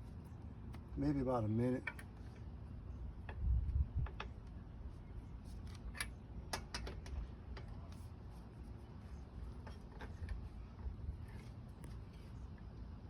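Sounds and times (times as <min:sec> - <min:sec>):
low rumble of handling: 0:00.0 - 0:13.0.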